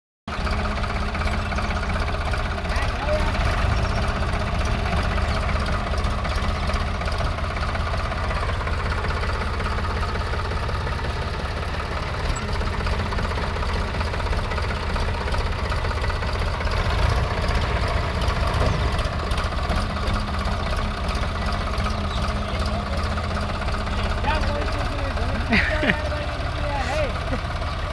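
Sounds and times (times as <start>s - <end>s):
tractor diesel engine chugging: 0.3s - 27.9s.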